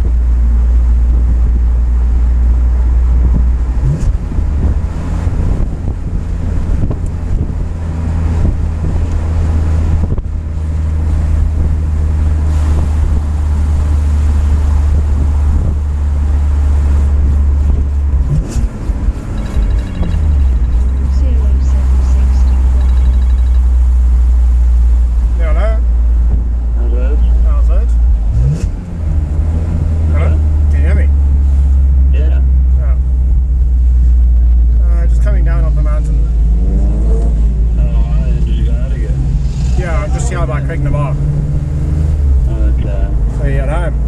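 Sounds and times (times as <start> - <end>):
car engine and road drone: 0.0 - 44.0.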